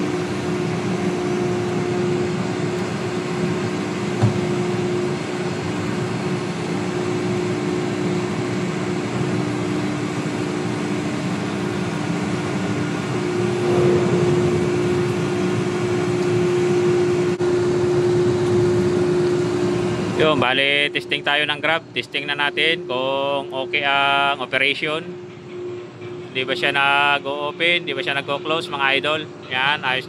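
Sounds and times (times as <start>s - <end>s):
hydraulic crane droning hum: 0.0s - 29.5s.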